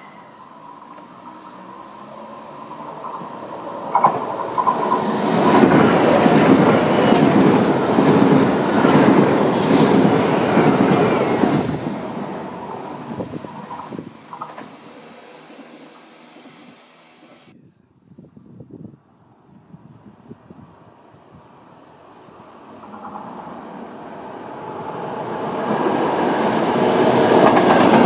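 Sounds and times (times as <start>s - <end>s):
train wheel-on-rail noise: 0.0s - 17.6s, 20.4s - 28.0s.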